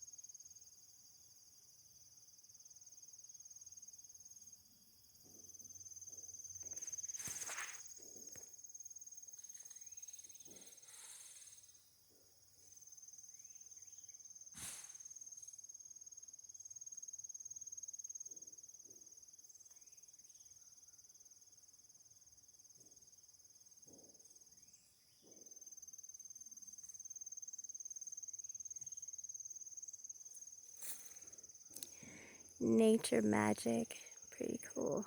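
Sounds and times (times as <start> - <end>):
high insect trill: 0.0 - 35.0.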